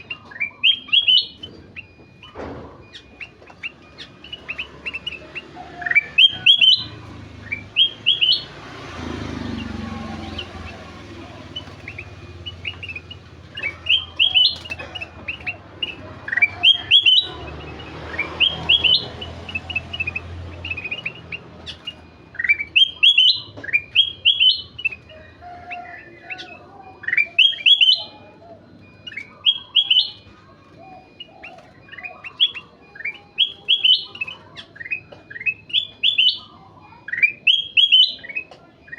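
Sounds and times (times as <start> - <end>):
bird singing chirped phrases: 0.0 - 38.9.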